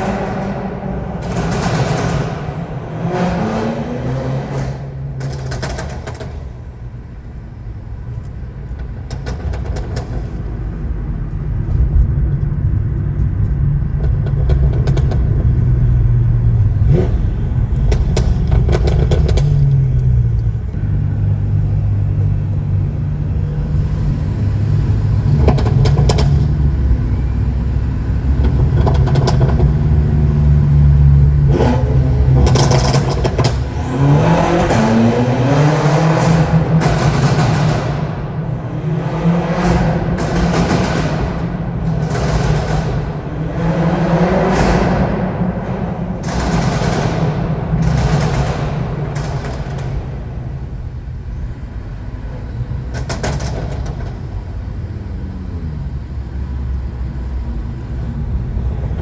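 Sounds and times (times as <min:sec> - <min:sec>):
car engine revving through gears: 0:00.0 - 0:12.3, 0:13.1 - 0:59.0
exhaust pops and crackles: 0:00.0 - 0:59.0.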